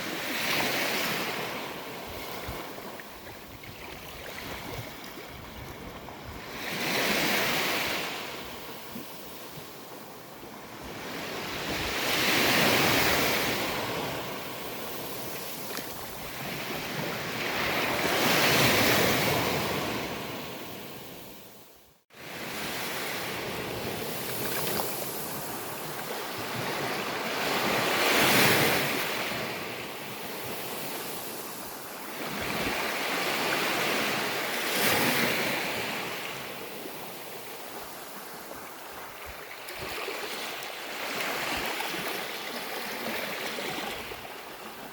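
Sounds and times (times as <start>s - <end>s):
sea waves breaking on a beach: 0.0s - 44.9s.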